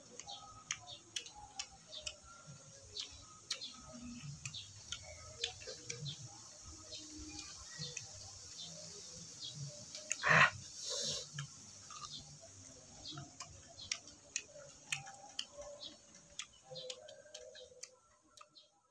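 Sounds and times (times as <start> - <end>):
mouth chewing with wet clicks: 0.0 - 18.8.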